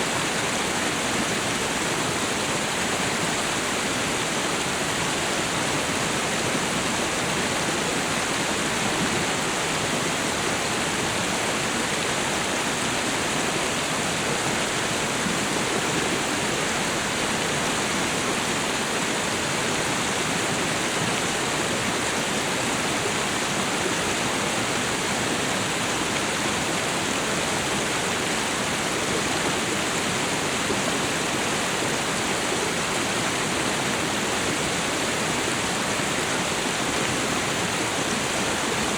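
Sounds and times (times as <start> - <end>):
waterfall and river rushing: 0.0 - 38.9.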